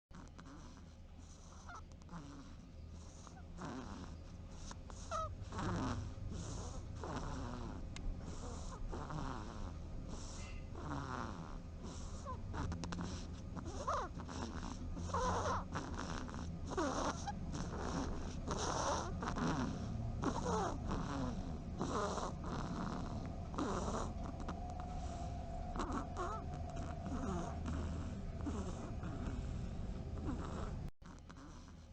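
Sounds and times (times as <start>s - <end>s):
animal snoring: 0.1s - 31.9s
steady low hum: 0.1s - 31.9s.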